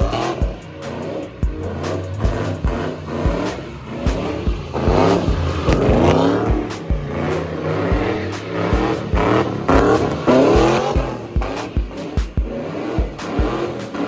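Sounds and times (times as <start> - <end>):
car engine revving hard: 0.0 - 14.0
music with thumping bass beat: 0.0 - 14.0.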